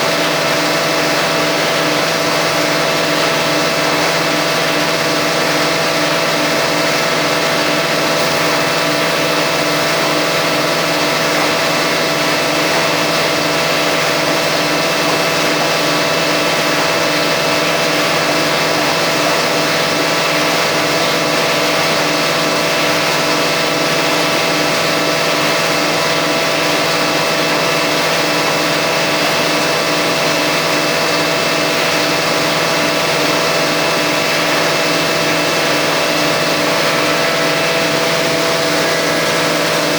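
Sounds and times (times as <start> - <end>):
dense mechanical noise: 0.0 - 39.9
veneer lathe machine hum: 0.0 - 39.9.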